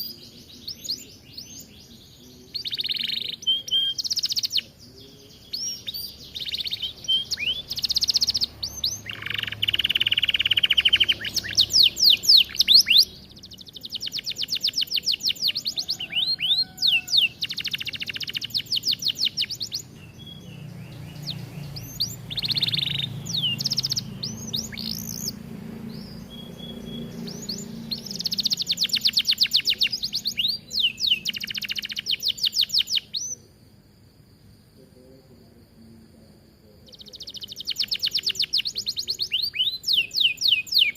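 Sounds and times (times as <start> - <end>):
canary singing trills: 0.0 - 33.6, 36.7 - 40.9.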